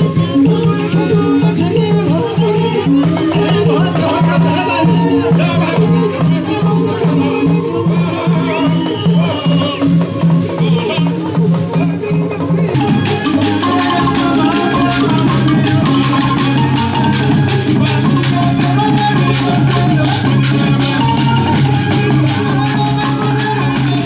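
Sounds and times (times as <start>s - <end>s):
fast dense drumming: 0.0s - 24.0s
shaker rattles: 0.0s - 24.0s
wavering melody: 0.0s - 24.0s.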